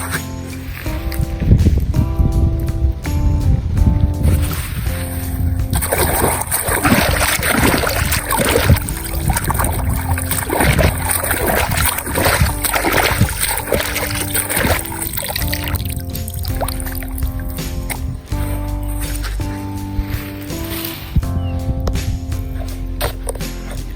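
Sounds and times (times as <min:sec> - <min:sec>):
background music: 0:00.0 - 0:23.9
water splashing and sloshing: 0:00.0 - 0:23.9.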